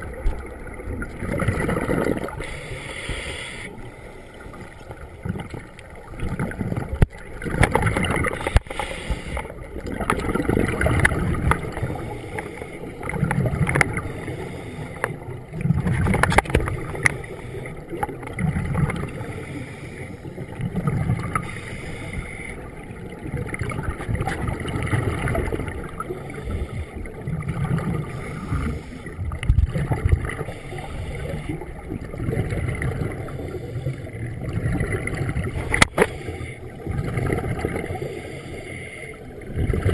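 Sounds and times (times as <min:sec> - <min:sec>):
underwater bubbles rumbling: 0:00.0 - 0:02.9, 0:03.8 - 0:38.5, 0:39.1 - 0:39.9.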